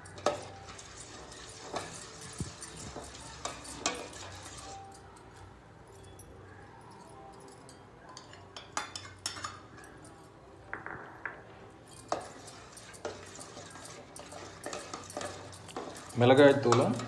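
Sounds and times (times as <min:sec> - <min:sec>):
spoon clinking against pot: 0:00.0 - 0:06.4, 0:07.0 - 0:10.4, 0:11.3 - 0:17.0.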